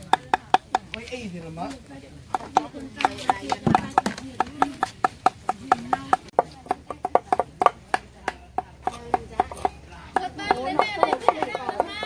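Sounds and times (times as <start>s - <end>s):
knives chopping on wooden blocks: 2.3s - 12.0s.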